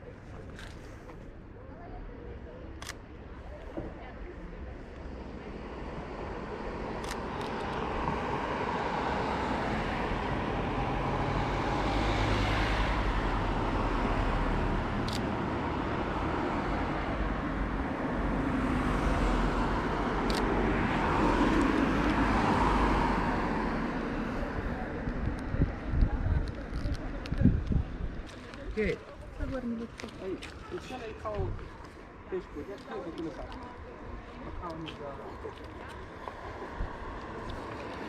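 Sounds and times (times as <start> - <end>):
motor vehicles passing: 5.5 - 38.0.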